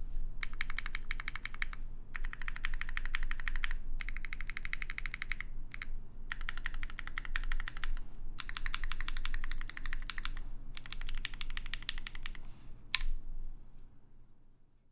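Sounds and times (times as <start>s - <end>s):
typing on mechanical keyboard: 0.4s - 12.4s.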